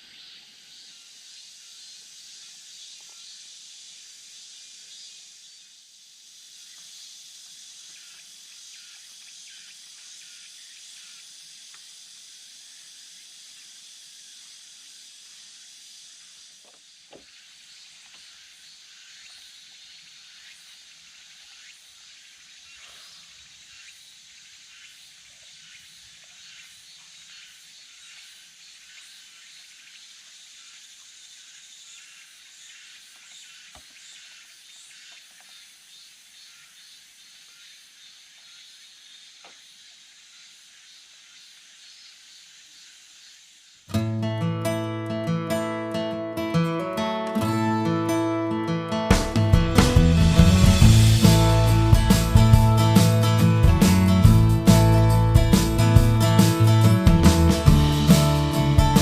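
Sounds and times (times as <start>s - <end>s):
insects buzzing: 0.0s - 59.0s.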